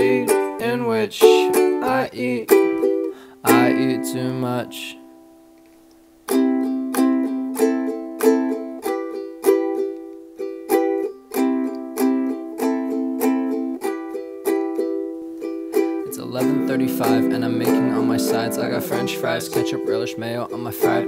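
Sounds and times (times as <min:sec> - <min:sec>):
ukulele strummed and plucked: 0:00.0 - 0:21.0.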